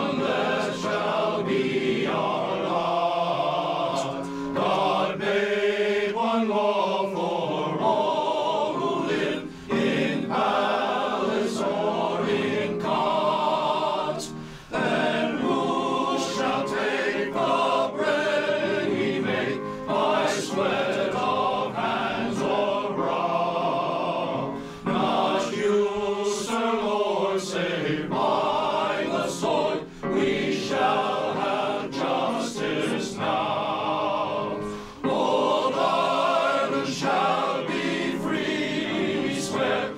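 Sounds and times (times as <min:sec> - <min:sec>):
male choir singing: 0:00.0 - 0:39.9.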